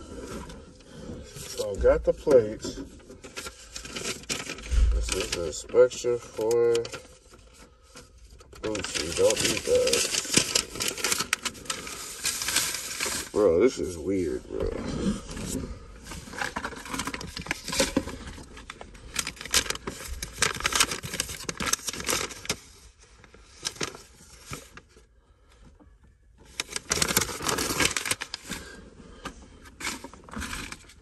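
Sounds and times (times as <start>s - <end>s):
paper documents rustling: 0.0s - 25.0s, 26.4s - 31.0s.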